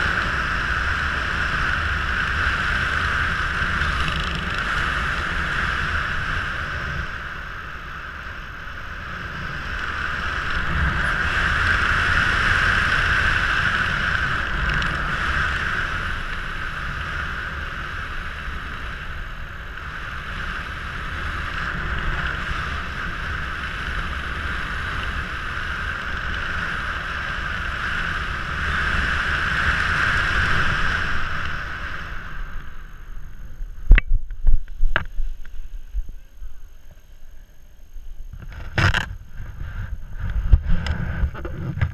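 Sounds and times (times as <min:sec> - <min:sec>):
wind rushing over camera: 0:00.0 - 0:41.9.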